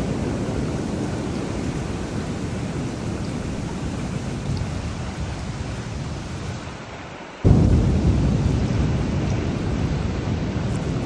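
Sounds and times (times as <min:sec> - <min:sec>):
thunder clap rumbling: 0:00.0 - 0:06.8, 0:07.4 - 0:11.0
heavy rain: 0:00.0 - 0:11.0.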